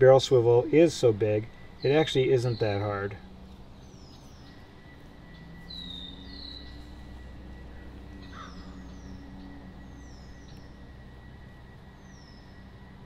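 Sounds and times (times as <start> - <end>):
birds chirping: 0.0 - 13.0
faint high whine: 0.0 - 13.0
low hum: 0.0 - 13.0.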